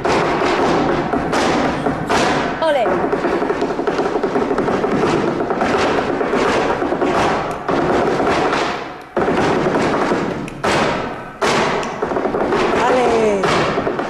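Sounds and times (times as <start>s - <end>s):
dancer's shoes drumming on wood: 0.0s - 14.0s.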